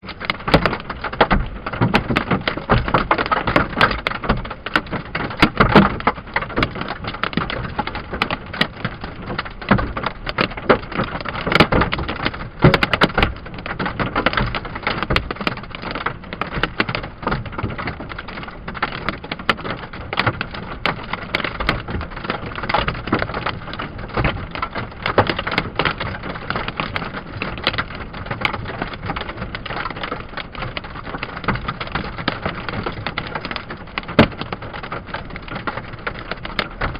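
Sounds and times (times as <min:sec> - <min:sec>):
hail clattering on truck roof: 0:00.0 - 0:36.9.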